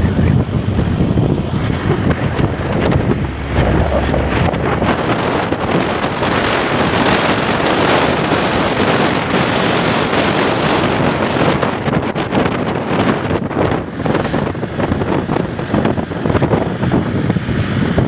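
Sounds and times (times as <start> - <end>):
vehicle rumble: 0.0 - 18.0
wind buffeting microphone: 0.0 - 18.0.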